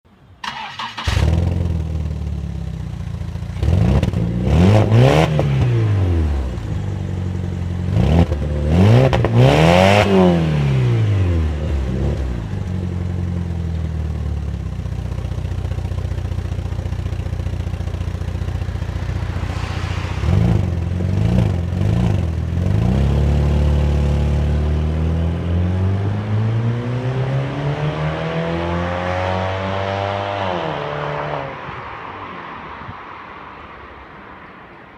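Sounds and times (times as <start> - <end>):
car engine idling and revving: 0.5 - 32.9.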